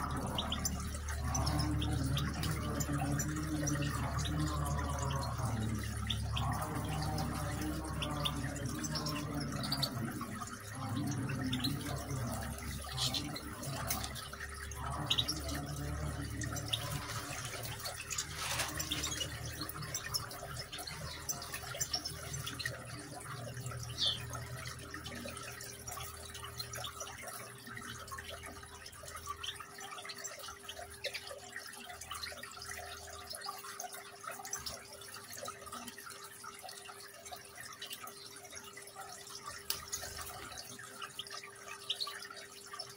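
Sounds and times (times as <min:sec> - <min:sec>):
water trickling in fountain: 0:00.0 - 0:42.9.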